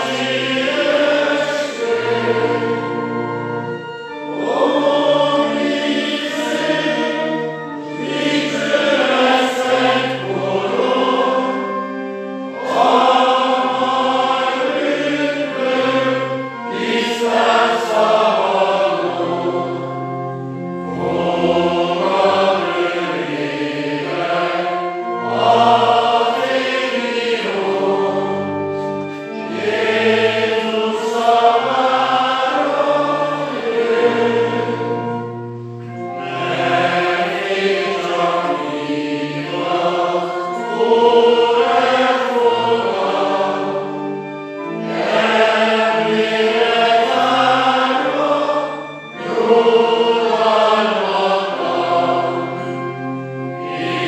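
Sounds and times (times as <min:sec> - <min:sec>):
congregation singing a hymn: 0:00.0 - 0:54.0
pipe organ: 0:00.0 - 0:54.0.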